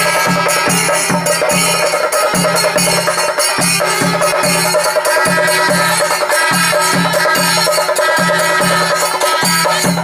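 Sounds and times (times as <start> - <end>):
drum ensemble rhythm: 0.0 - 10.0
hand cymbals: 0.0 - 10.0.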